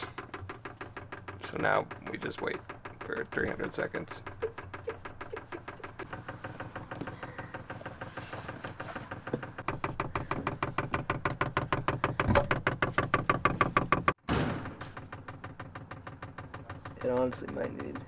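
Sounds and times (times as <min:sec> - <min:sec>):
fuel pump ticking rapidly: 0:00.0 - 0:14.2, 0:14.8 - 0:18.0.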